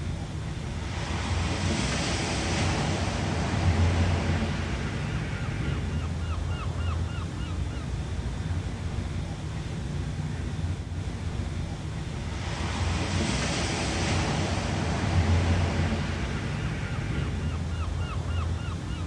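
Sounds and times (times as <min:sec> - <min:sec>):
low rumble of surf: 0:00.0 - 0:19.0
wave washing in: 0:00.0 - 0:19.0.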